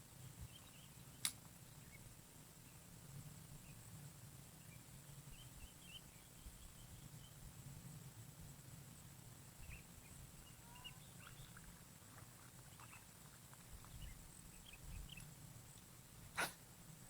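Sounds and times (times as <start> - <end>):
faint small chirps and ticks: 0.0 - 17.0.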